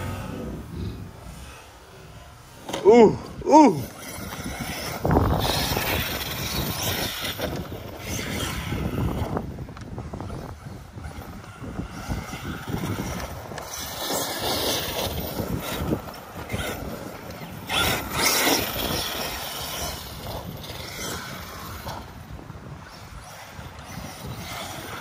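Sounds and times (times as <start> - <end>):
electric toy truck driving on dirt: 0.0 - 25.0
wind on microphone: 0.0 - 25.0.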